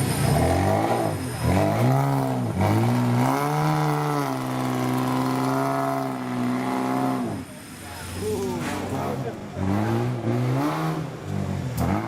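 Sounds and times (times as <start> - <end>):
engine revving: 0.0 - 7.5, 8.6 - 12.0.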